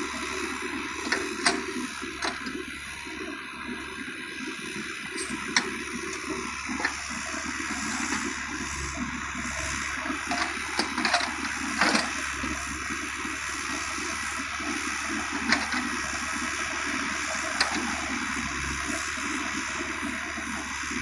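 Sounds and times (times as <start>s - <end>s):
excavator engine and hydraulics: 0.0s - 21.0s.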